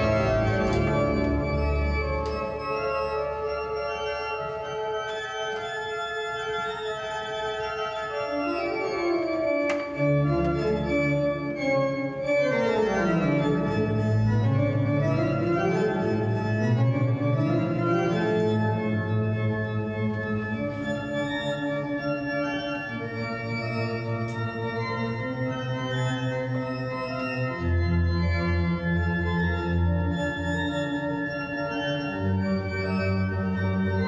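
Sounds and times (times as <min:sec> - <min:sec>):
organ chords: 0:00.0 - 0:34.0.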